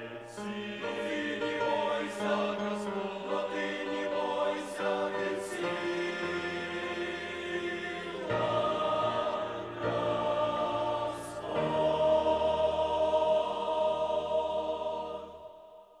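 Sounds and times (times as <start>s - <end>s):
church choir singing a hymn: 0.0s - 16.0s.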